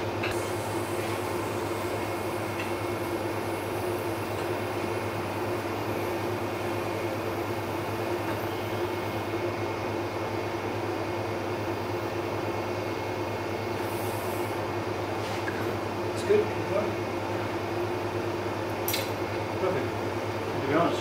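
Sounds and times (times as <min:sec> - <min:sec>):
machine hum with faint whine: 0:00.0 - 0:21.0.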